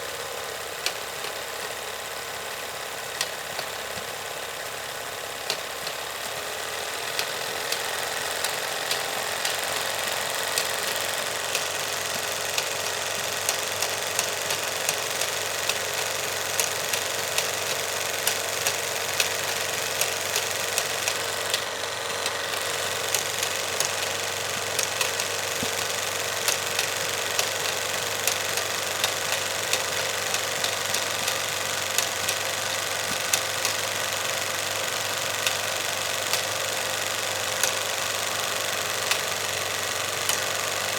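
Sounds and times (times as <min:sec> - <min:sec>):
film projector whirring: 0:00.0 - 0:40.9
sharp uneven clicks: 0:05.5 - 0:40.9.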